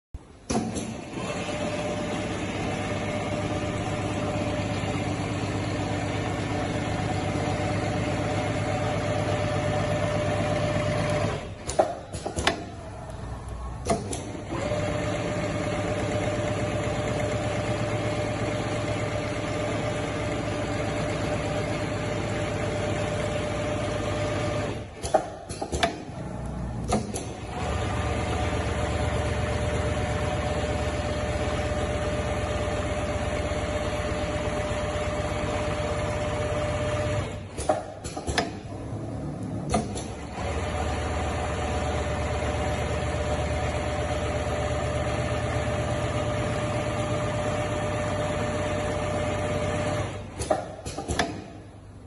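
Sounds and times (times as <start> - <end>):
sewing machine stitching: 0.5 - 12.7, 13.7 - 51.5.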